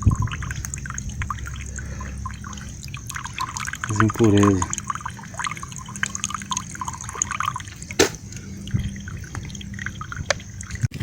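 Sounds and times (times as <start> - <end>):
water dripping into a container: 0.0 - 11.0.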